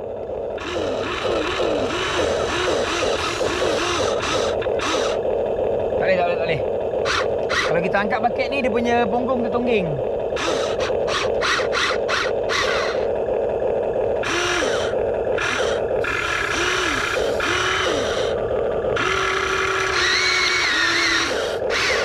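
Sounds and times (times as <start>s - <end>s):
toy excavator motors whirring: 0.0s - 22.0s.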